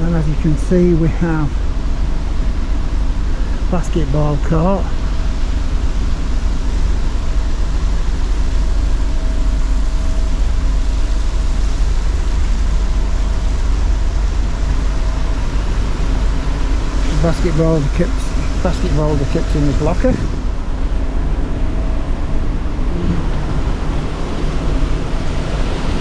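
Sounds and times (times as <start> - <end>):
faint steady hum: 0.0 - 26.0
wind buffeting microphone: 0.0 - 26.0.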